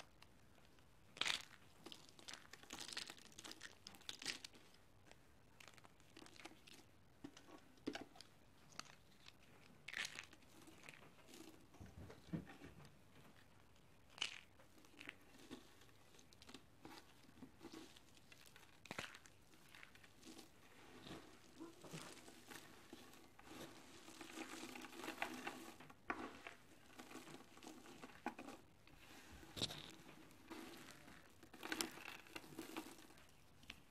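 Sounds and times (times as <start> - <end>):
dry soap crunching in hands: 0.0 - 11.7, 13.3 - 33.9.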